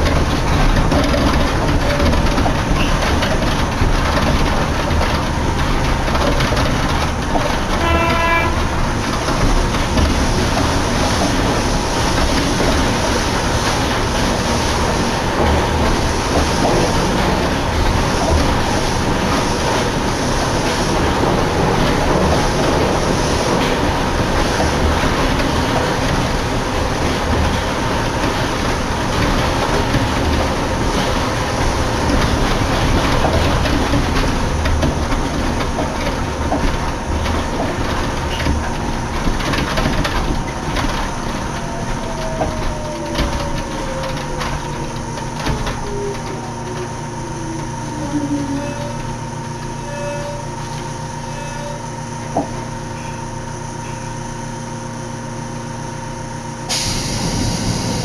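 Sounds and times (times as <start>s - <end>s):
train car running rumble: 0.0s - 58.0s.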